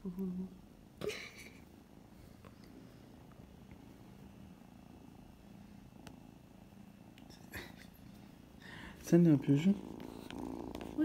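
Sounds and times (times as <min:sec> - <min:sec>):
kitten purring faintly: 0:00.0 - 0:11.0.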